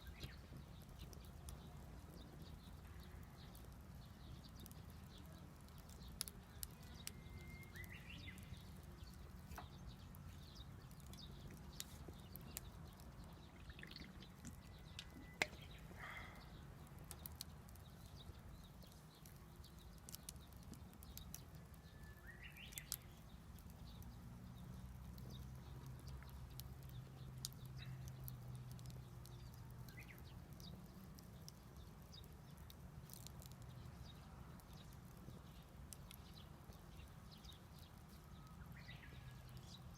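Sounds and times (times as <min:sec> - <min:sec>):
bird chirping: 0:00.0 - 0:39.9
wood fire crackling and popping: 0:00.0 - 0:39.9.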